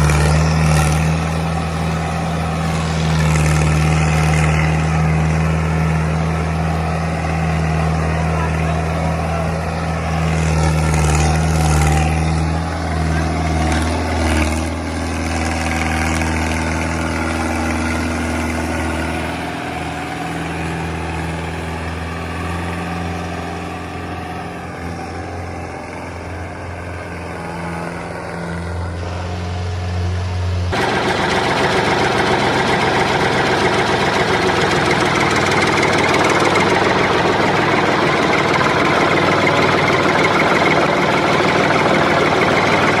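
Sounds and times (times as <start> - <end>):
engine humming: 0.0 - 43.0
fast rattling engine: 0.0 - 43.0.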